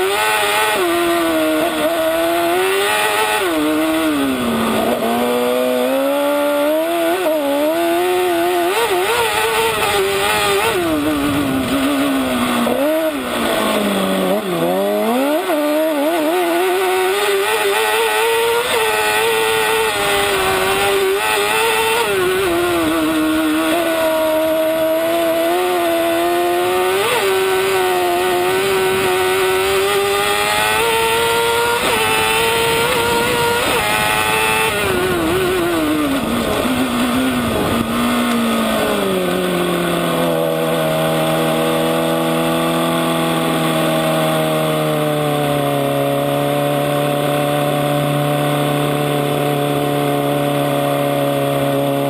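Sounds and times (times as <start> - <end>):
kart engine revving: 0.0 - 52.0.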